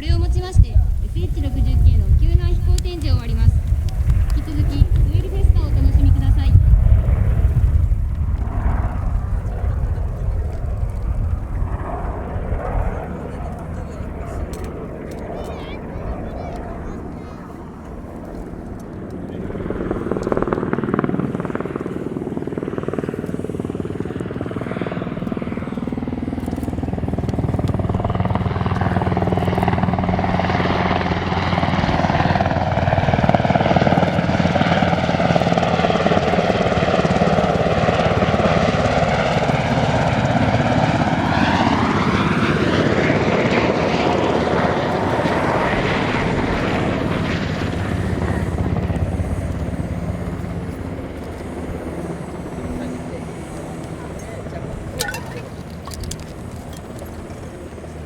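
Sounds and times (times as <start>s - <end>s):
helicopter rotors and engines: 0.0s - 58.0s.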